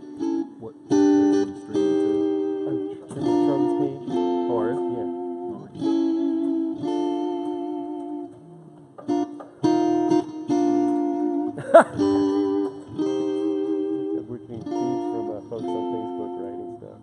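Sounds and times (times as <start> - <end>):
amplified guitar chords: 0.0 - 17.0
guitar pitch slide: 0.0 - 17.0.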